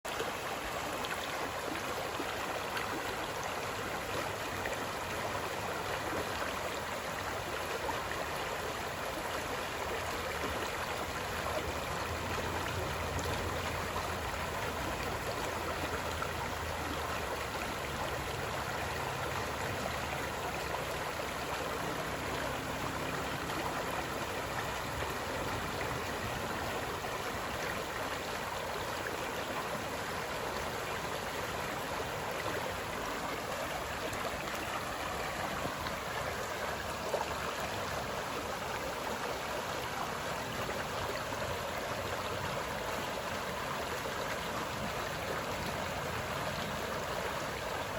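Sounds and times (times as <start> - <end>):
rushing water: 0.0 - 47.9.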